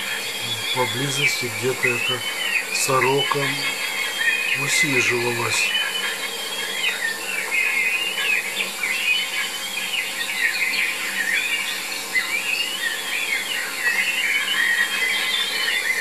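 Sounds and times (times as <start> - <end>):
small birds singing chorus: 0.0 - 16.0.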